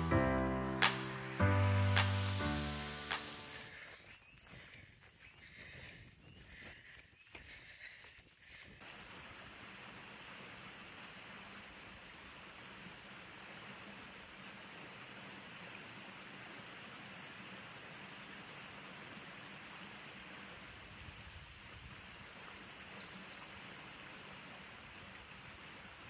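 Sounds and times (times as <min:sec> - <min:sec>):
water rushing: 0:00.0 - 0:03.7, 0:08.8 - 0:26.0.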